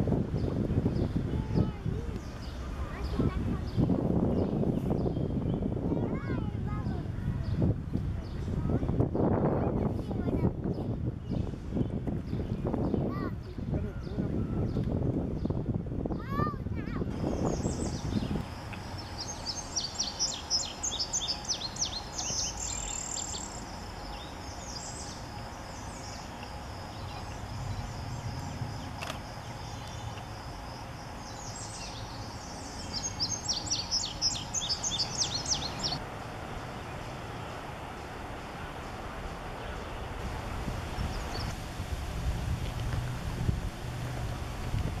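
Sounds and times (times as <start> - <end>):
songbird singing: 0.0 - 41.7
low background rumble: 0.0 - 45.0.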